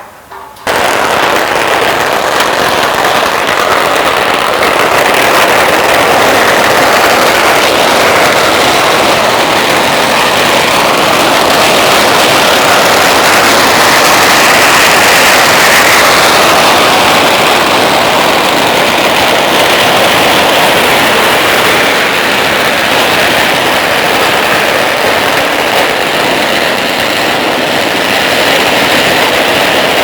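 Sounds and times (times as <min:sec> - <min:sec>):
firecrackers crackling: 0:00.0 - 0:30.0.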